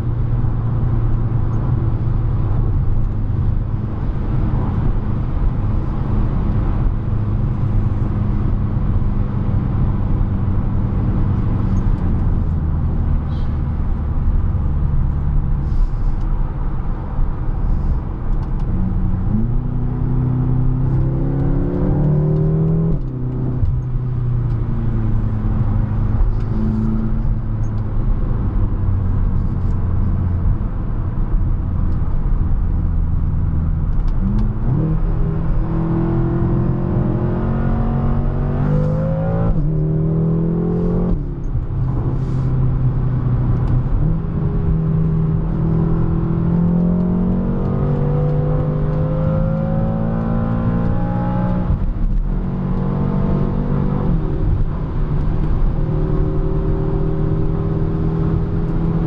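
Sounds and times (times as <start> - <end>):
car engine accelerating through gears: 0.2 - 59.0.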